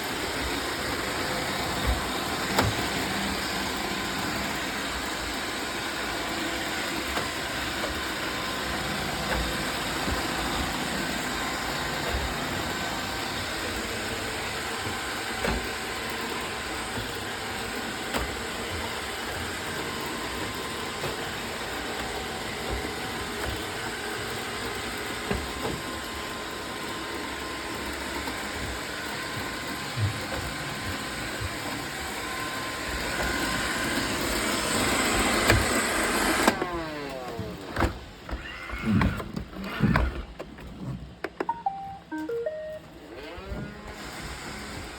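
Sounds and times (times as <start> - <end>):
robot vacuum whirring hum: 0.0 - 44.9.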